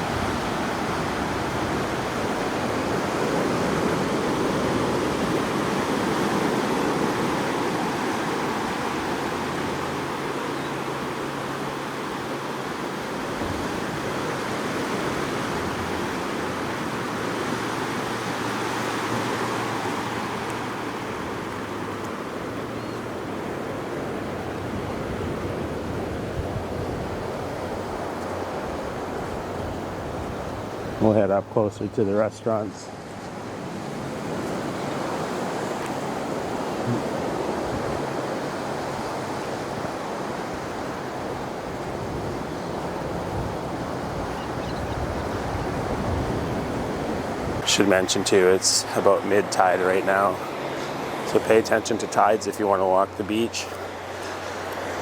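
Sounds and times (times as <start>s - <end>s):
ocean surf on beach: 0.0s - 55.0s.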